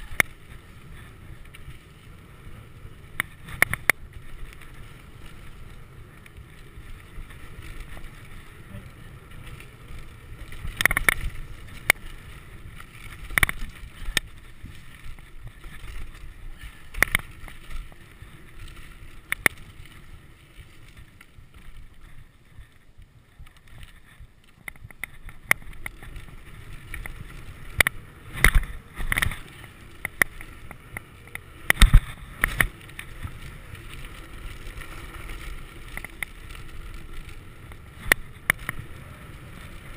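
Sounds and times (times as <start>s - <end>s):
bike tyres rumbling on dirt: 0.0s - 39.9s
wind on camera: 0.0s - 39.9s
bike clunking and rattling: 2.4s - 39.8s.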